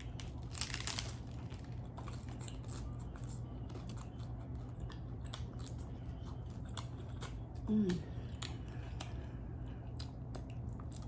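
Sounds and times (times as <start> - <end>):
crunchy taco shell chewing: 0.0 - 11.0
steady low hum: 0.0 - 11.0.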